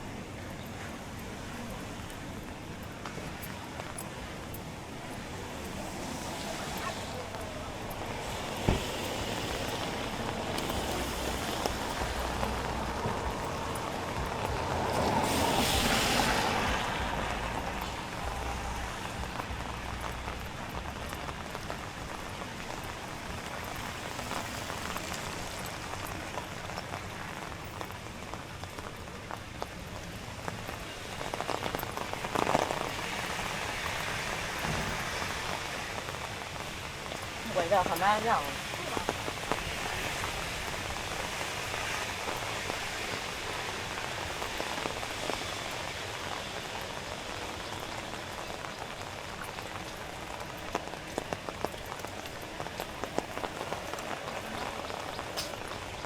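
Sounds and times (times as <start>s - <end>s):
rain falling on a street: 0.0s - 56.0s.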